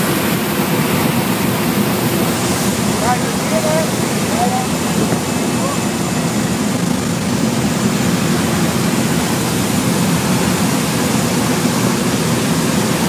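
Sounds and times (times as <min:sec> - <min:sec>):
plane engine and propeller drone: 0:00.0 - 0:13.0.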